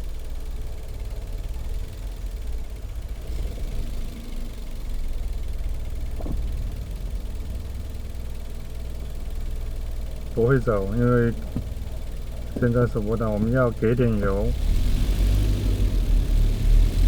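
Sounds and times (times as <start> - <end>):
car engine lugging at idle: 0.0 - 17.0.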